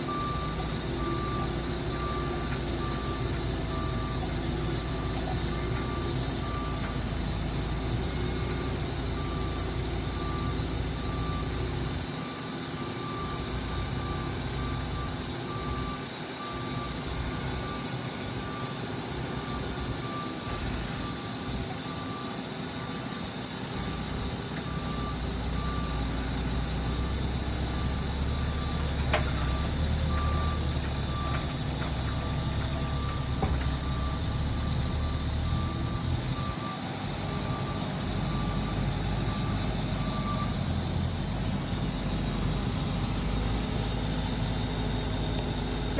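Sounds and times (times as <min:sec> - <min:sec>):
heavy machinery engine running: 0:00.0 - 0:45.9
reversing alarm beeping: 0:00.0 - 0:45.9.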